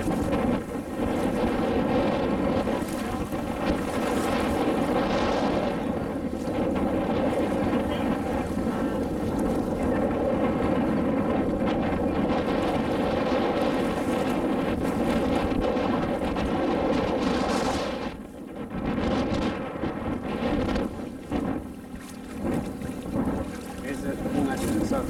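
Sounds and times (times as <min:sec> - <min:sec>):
motorboat engine running: 0:00.0 - 0:25.0
wind on microphone: 0:00.0 - 0:25.0.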